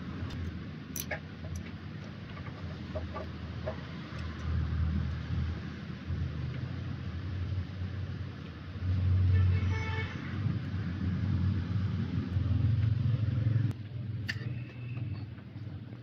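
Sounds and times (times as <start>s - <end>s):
low rumble of motor vehicles: 0.0s - 16.0s.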